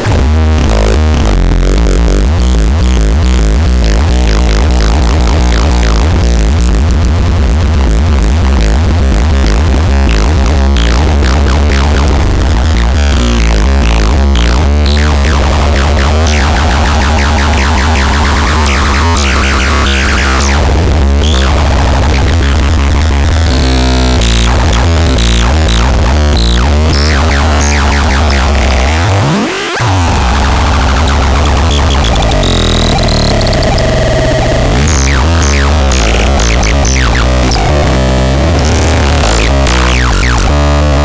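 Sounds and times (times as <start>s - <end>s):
dubstep electronic music: 0.0s - 8.9s, 9.6s - 41.0s.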